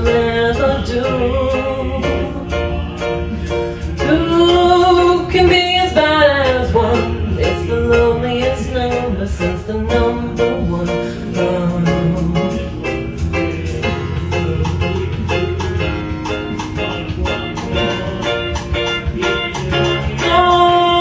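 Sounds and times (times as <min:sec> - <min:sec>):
woman singing into microphone: 0:00.0 - 0:03.0, 0:03.7 - 0:12.8, 0:13.8 - 0:16.1, 0:16.8 - 0:21.0
karaoke backing track: 0:00.0 - 0:21.0
plucked string accompaniment: 0:00.0 - 0:21.0.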